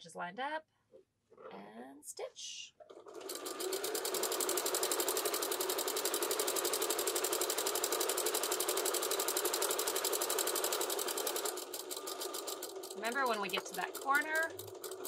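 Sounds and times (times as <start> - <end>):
sewing machine stitching: 2.8 - 15.0.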